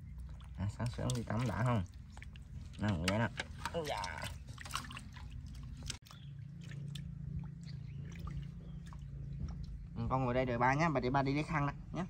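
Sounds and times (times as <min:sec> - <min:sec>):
water splashing in metal basin: 0:00.0 - 0:09.7
low steady hum: 0:00.0 - 0:12.0.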